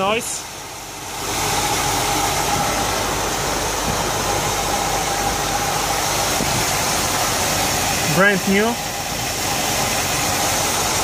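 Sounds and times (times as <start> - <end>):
car engine idling with whine: 0.0 - 11.0.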